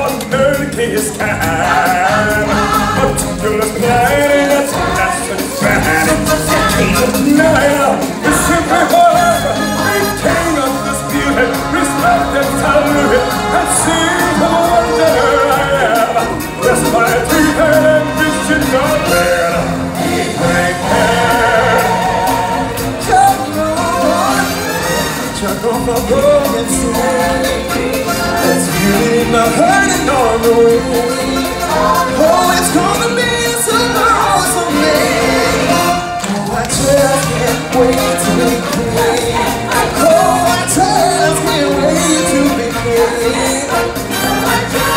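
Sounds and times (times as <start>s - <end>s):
upbeat stage-show music: 0.0s - 44.9s
voices singing: 0.0s - 44.9s.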